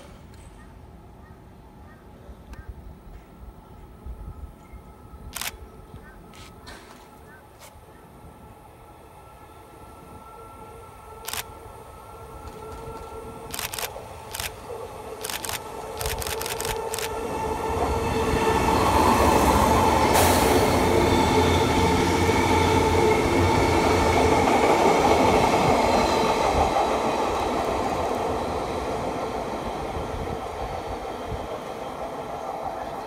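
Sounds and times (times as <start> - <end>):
electric train running with hum: 2.9 - 33.0.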